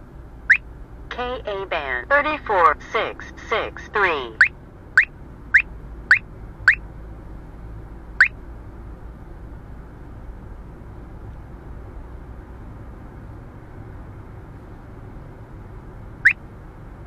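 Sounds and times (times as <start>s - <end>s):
car cabin road noise: 0.0s - 17.0s.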